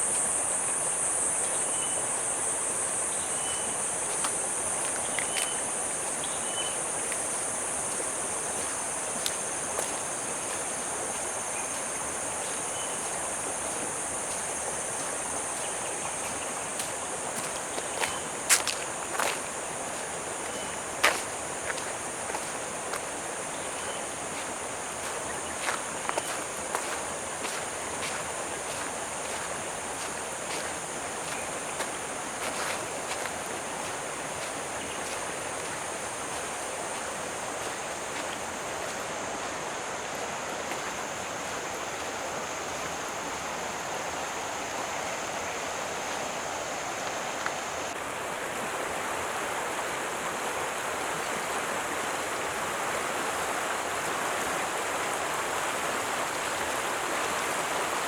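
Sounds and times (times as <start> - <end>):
high insect drone: 0.0 - 58.0
stream water rushing: 0.0 - 58.0.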